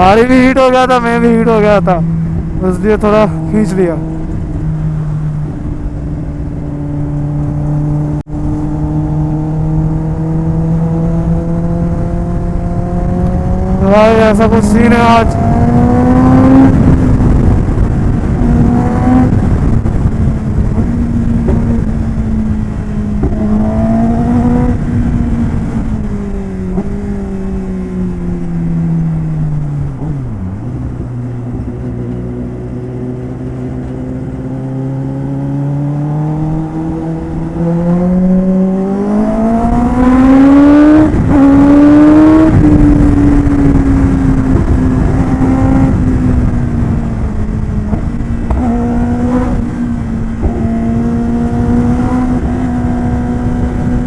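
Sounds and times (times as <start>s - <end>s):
motorcycle engine running: 0.0s - 54.0s
steady rushing noise: 0.0s - 54.0s.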